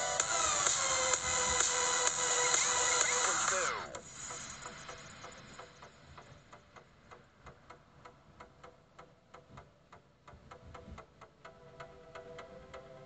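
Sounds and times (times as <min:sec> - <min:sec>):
faint steady tones: 0:00.0 - 0:13.0
quiet regular ticking: 0:00.0 - 0:13.0.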